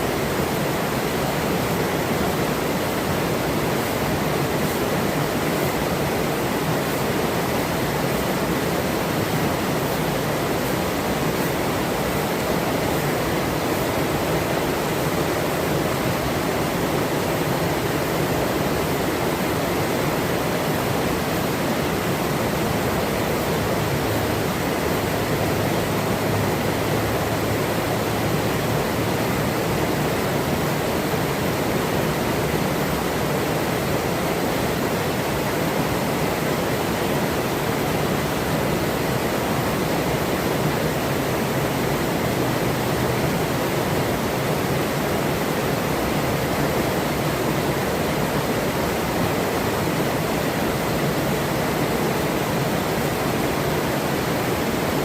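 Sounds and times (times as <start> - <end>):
forest river rushing: 0.0 - 55.0.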